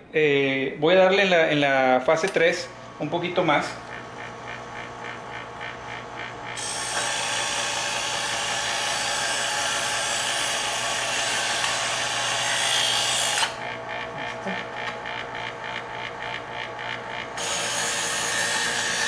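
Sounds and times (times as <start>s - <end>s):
knife sharpener motor hum: 3.6s - 19.0s.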